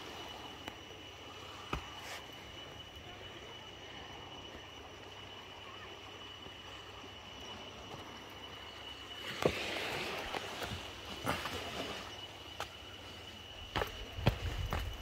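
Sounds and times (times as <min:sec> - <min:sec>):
gentle sea wash: 0:00.0 - 0:15.0
thin high-pitched whine: 0:00.0 - 0:15.0.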